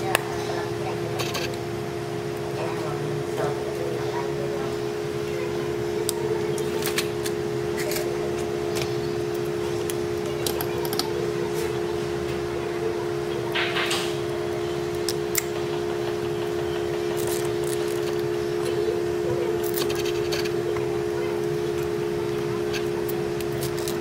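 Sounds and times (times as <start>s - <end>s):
droning hum: 0.0s - 24.0s.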